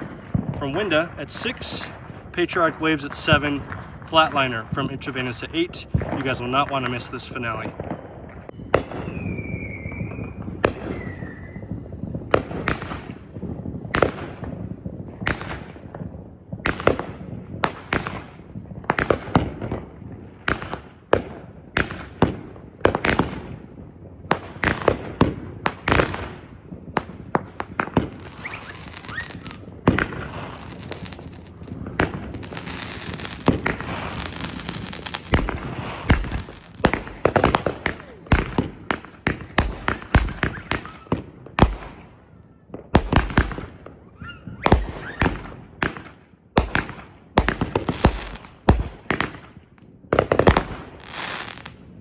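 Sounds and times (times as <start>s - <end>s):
fireworks bangs and crackle: 0.0s - 52.0s.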